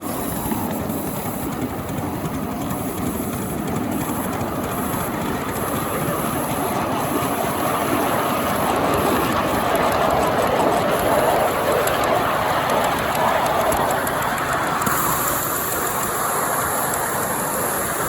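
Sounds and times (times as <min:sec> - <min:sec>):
miniature train wheels rattling on rails: 0:00.0 - 0:18.0.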